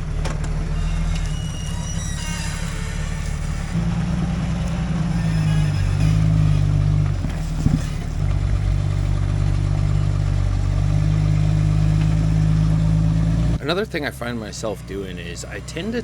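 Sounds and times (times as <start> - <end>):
off-road engine at low revs: 0.0 - 16.0.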